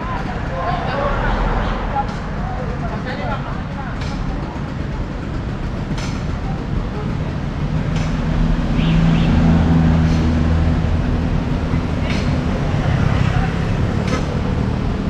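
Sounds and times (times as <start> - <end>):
road noise: 0.0 - 15.0
vehicle engine running: 0.0 - 15.0.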